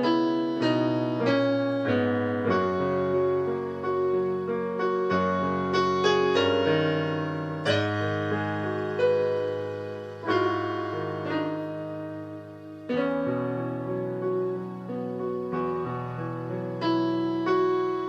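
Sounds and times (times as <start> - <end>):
slow piano-like chords: 0.0 - 18.0.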